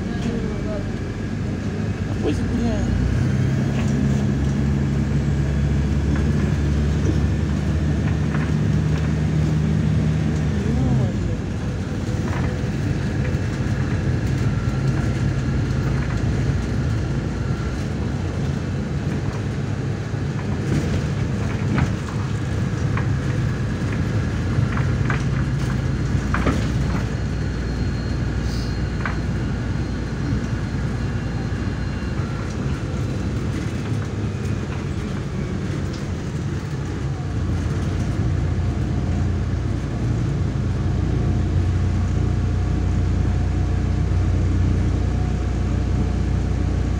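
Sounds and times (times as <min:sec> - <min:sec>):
bus engine and road drone: 0:00.0 - 0:46.9.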